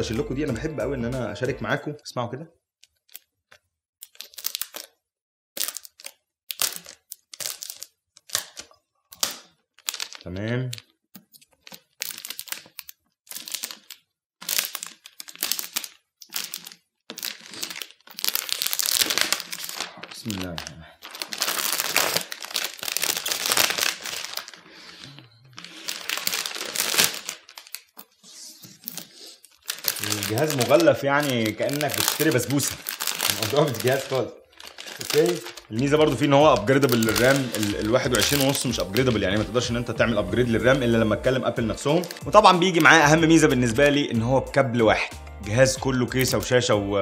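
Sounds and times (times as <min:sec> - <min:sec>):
plastic film peeled off glass: 0:04.0 - 0:05.0, 0:05.6 - 0:10.8, 0:11.4 - 0:43.4.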